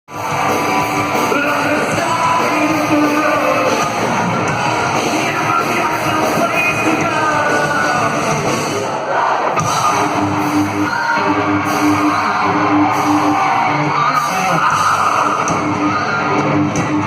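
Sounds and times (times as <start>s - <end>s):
people singing and yelling: 0.1s - 17.0s
rock band playing live: 0.1s - 17.0s.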